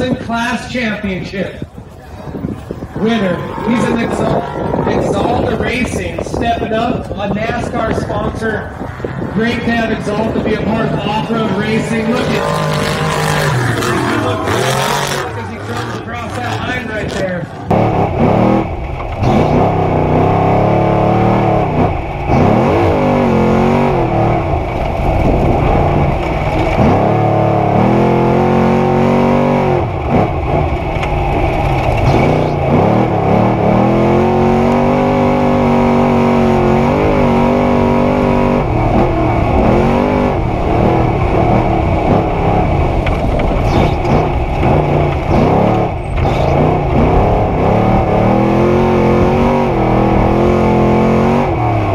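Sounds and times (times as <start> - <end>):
racing truck engine revving: 0.0 - 51.9.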